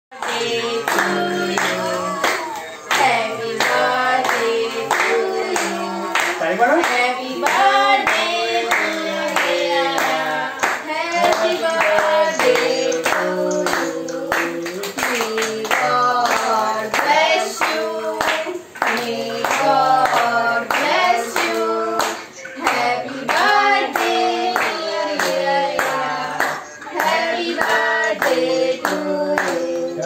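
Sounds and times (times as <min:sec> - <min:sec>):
group clapping in time: 0:00.1 - 0:30.0
group singing a birthday song: 0:00.1 - 0:30.0
music: 0:00.1 - 0:30.0.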